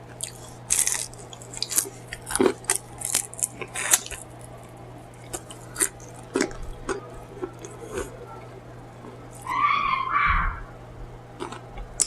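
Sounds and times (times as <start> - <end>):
close chewing with lip-smacking: 0.0 - 9.5, 11.4 - 12.0.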